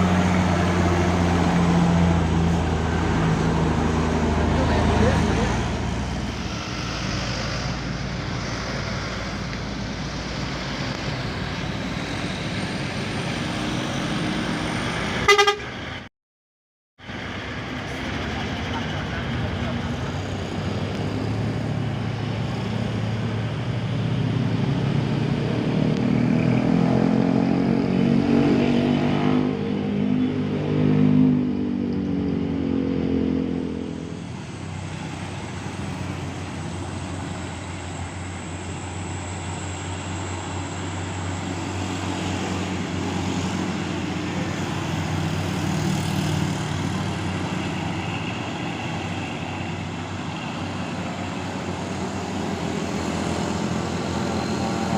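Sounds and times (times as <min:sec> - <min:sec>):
traffic noise: 0:00.0 - 0:16.1, 0:17.0 - 0:54.9
truck engine labouring: 0:00.0 - 0:16.1, 0:17.0 - 0:54.9.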